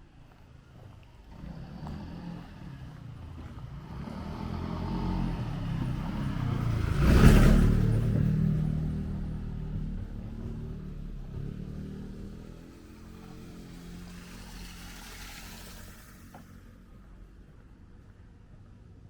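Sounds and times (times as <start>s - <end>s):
vehicle driving past: 0.3s - 17.9s.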